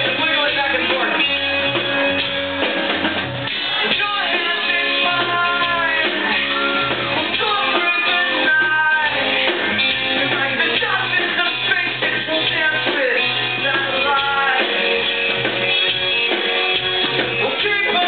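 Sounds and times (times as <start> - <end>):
live rock band with vocals: 0.0 - 18.0.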